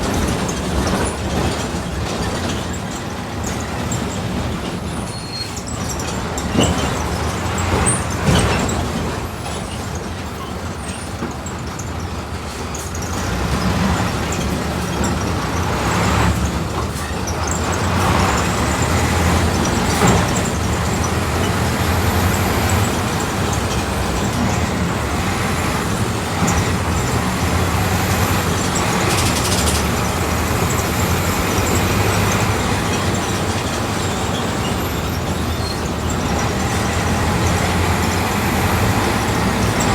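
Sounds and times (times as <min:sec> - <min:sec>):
bus diesel engine running: 0:00.0 - 0:39.9
sharp knocks and rattles: 0:05.6 - 0:39.9.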